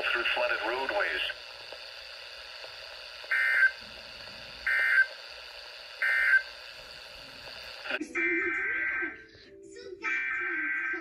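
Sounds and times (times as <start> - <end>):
radio hiss: 0.0 - 9.1.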